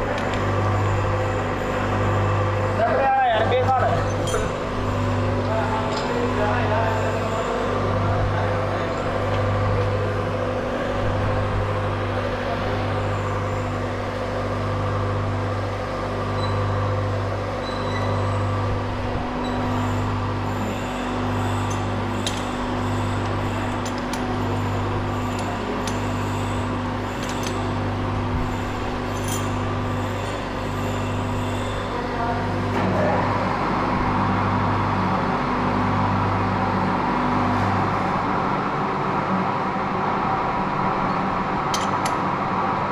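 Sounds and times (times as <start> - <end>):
lathe humming: 0.0 - 42.9.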